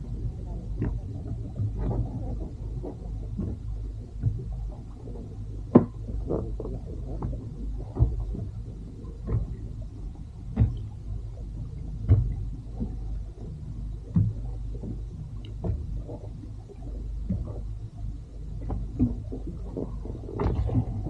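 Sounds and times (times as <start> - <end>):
steady low rumble: 0.0 - 21.0
waves slapping against boat hull: 0.0 - 21.0.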